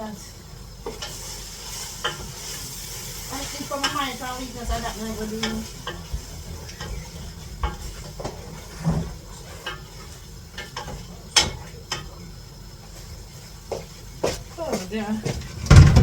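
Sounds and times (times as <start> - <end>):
food sizzling in a frying pan: 0.0 - 15.3.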